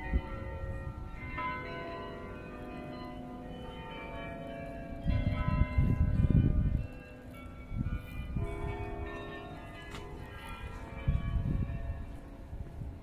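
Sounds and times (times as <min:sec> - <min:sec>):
tower bells ringing: 0:00.0 - 0:13.0.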